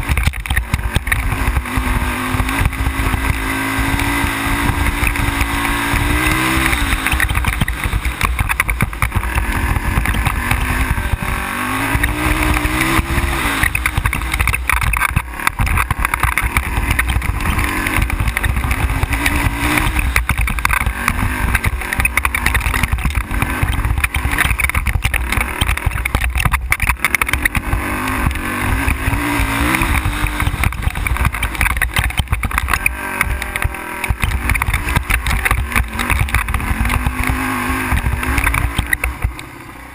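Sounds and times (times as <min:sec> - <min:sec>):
knocks and rattles: 0:00.0 - 0:39.6
quad bike engine running: 0:00.0 - 0:39.9.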